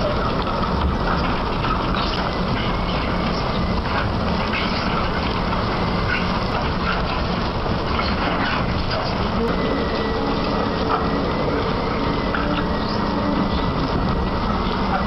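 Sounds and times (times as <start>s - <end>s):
excavator low rumble: 0.0s - 15.0s.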